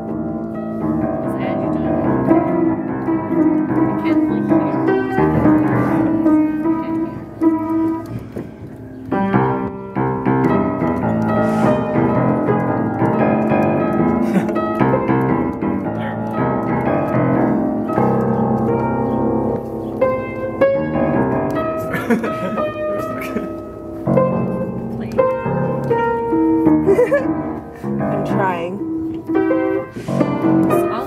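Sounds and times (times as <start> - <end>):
out-of-tune piano playing: 0.0 - 31.0.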